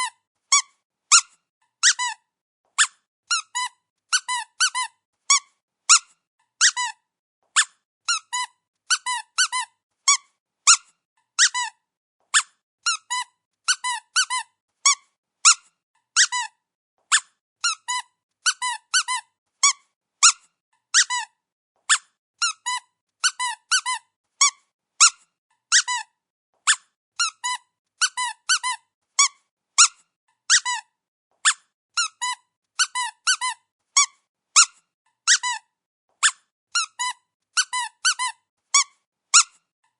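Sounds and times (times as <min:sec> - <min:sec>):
squeaky dog toy squeaking: 0:00.0 - 0:39.7.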